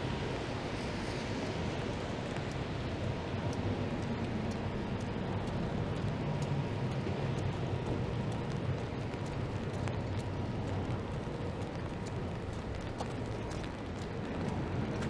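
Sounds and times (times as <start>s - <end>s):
traffic on wet road: 0.0s - 15.0s
faint light ticks: 0.2s - 15.0s
low engine rumble: 1.5s - 15.0s.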